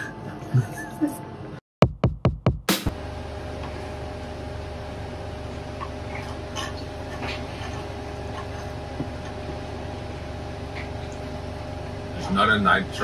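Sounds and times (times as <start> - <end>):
train carriage hum and rumble: 0.0 - 1.6, 2.9 - 13.0.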